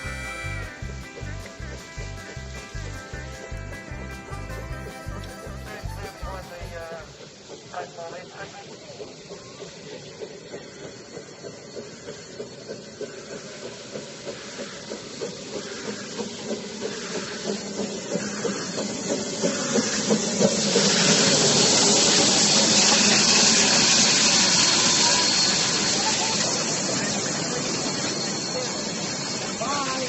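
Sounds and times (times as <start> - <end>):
steam hissing: 0.0 - 30.0
steam locomotive chugging: 0.0 - 30.0.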